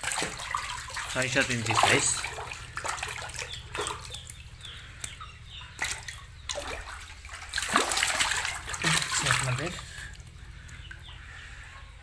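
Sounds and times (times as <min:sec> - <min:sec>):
small splashes and drips: 0:00.0 - 0:11.2
water splashing and sloshing: 0:00.0 - 0:12.0.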